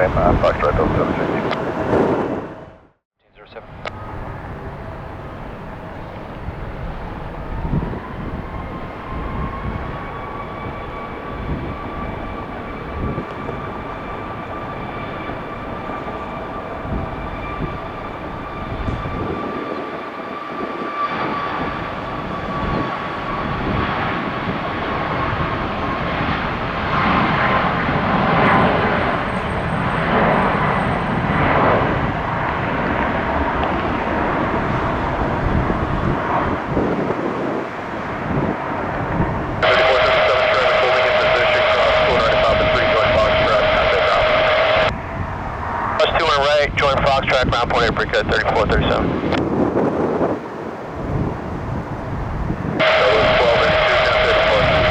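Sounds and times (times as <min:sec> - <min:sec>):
jet engine whine: 0:00.0 - 0:54.9
jet roar: 0:00.0 - 0:54.9.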